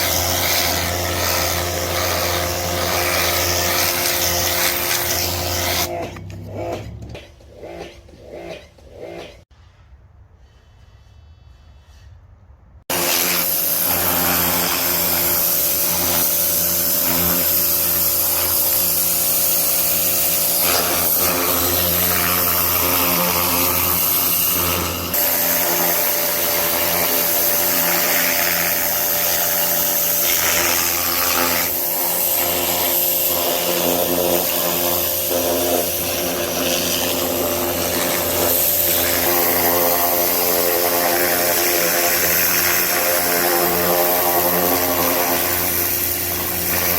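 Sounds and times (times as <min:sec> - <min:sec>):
high-pressure water jet hiss: 0:00.0 - 0:05.9, 0:12.9 - 0:46.9
pressure washer motor drone: 0:00.0 - 0:09.2, 0:12.9 - 0:46.9.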